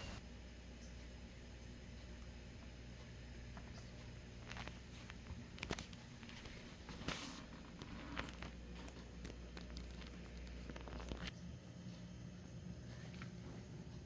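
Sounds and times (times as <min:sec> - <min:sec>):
low steady hum: 0:00.0 - 0:14.0
faint clicks and knocks: 0:00.8 - 0:12.1.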